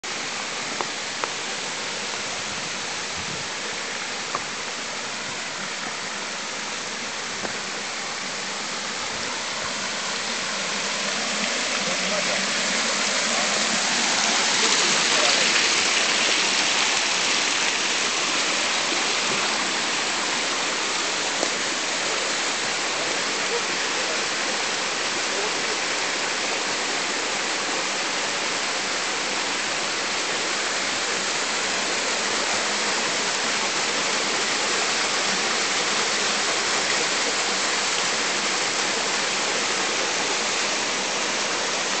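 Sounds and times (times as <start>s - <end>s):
stream splashing over boulders: 0.0s - 42.0s.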